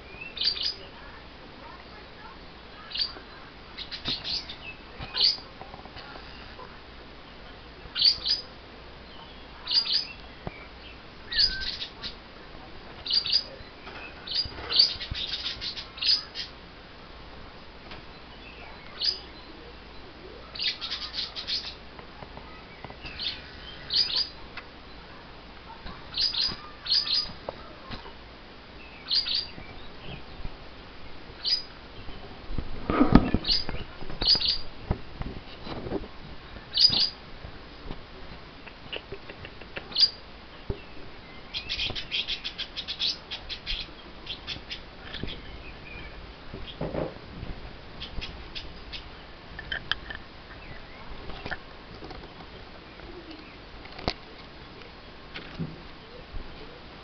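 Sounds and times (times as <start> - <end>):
lovebirds chirping: 0.0 - 16.7, 17.5 - 34.9, 35.5 - 37.3, 38.4 - 47.1, 47.8 - 57.0.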